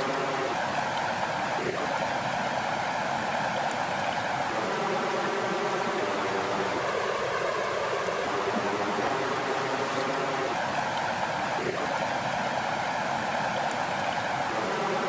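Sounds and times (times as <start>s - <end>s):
water flowing: 0.0s - 15.0s.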